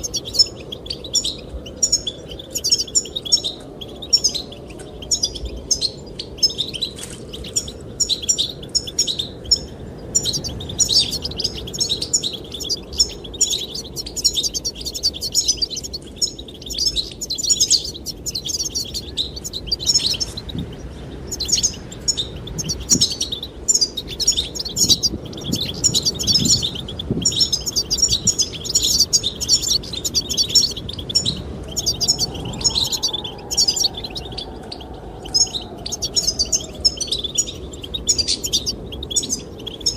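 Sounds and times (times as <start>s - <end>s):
birds twittering chirps: 0.0s - 39.9s
low rush of wind: 0.0s - 39.9s.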